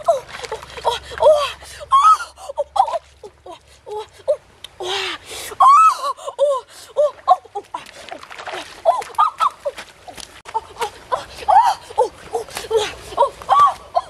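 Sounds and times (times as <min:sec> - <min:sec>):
water splashing: 0:00.0 - 0:14.0.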